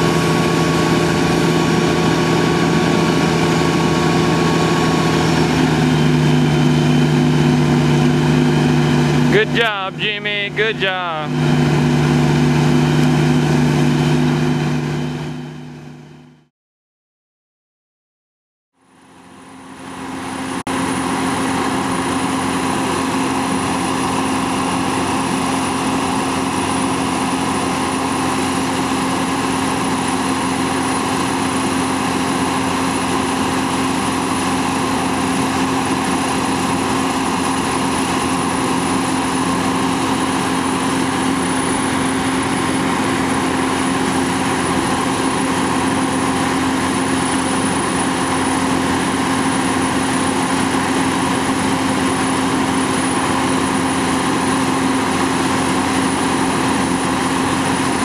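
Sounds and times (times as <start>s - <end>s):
fire truck engine droning: 0.0s - 16.5s, 18.8s - 58.0s.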